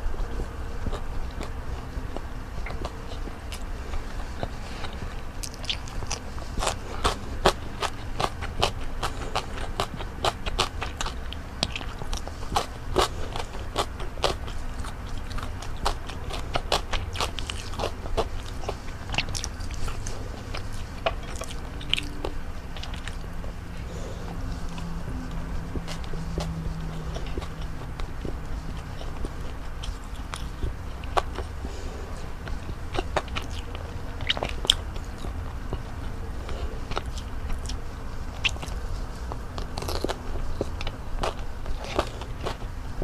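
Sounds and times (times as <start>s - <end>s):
person crunching crisp food: 0.0s - 43.0s.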